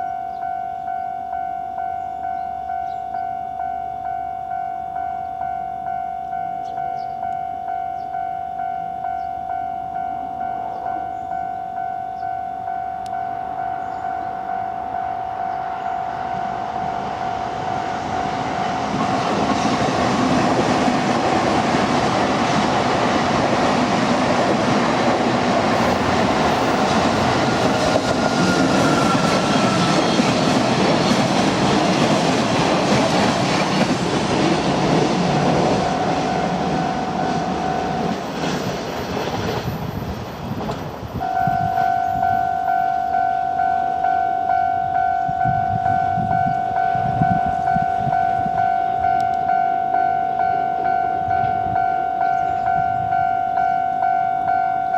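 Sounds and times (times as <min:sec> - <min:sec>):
level crossing warning bell ringing: 0:00.0 - 0:39.1, 0:41.1 - 0:54.9
train passing over crossing: 0:00.0 - 0:54.9.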